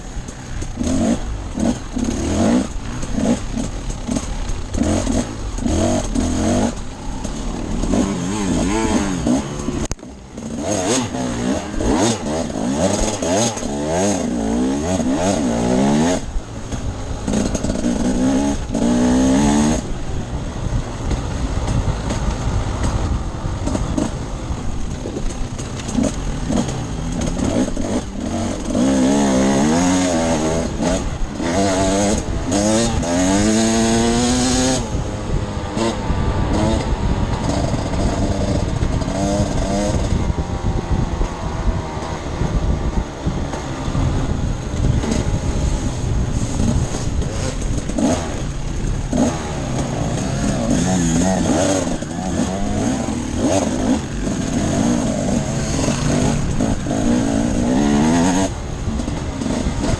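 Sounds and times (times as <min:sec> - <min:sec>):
dirt bike engine revving: 0:00.0 - 0:59.9
wind noise: 0:00.0 - 0:59.9.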